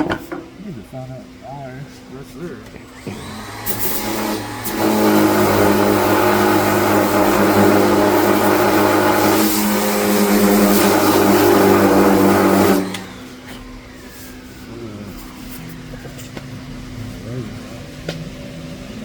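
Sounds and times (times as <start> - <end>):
power sander on metal: 2.8 - 18.9.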